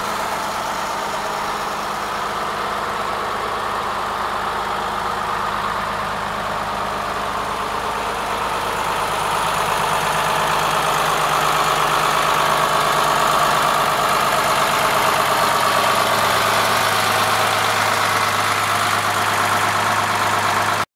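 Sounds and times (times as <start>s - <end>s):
tractor diesel engine idling: 0.0s - 20.9s.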